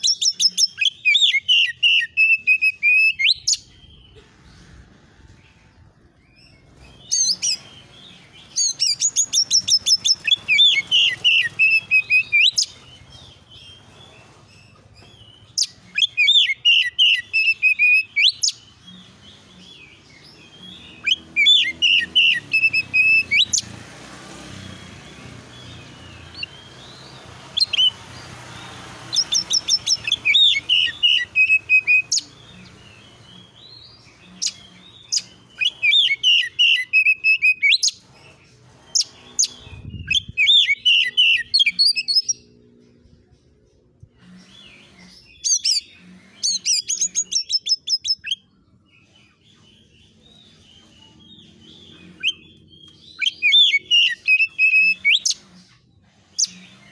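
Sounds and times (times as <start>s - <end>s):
bird rapid chattering song: 0.0s - 4.9s, 5.8s - 56.9s.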